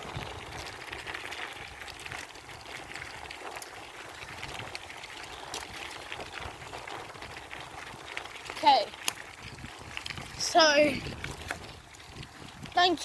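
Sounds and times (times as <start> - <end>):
bicycle riding rush: 0.0 - 13.0
faint crackles: 0.0 - 13.0.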